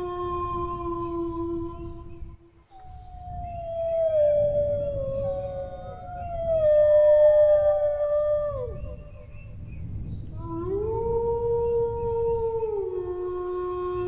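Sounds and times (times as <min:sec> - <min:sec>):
dogs howling: 0:00.0 - 0:02.0, 0:03.1 - 0:09.3, 0:10.4 - 0:14.0.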